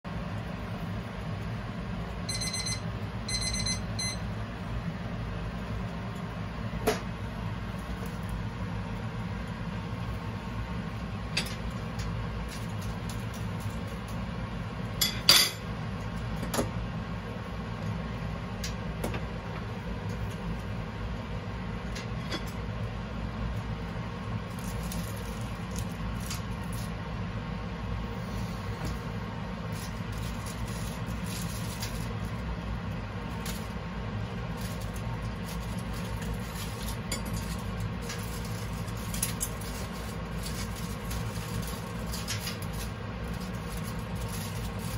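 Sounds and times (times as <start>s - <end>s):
steady low hum: 0.1s - 44.9s.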